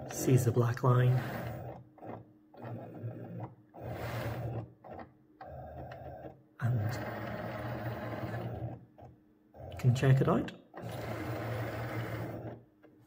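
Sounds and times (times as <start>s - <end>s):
cutting machine motors whirring: 0.0s - 13.0s.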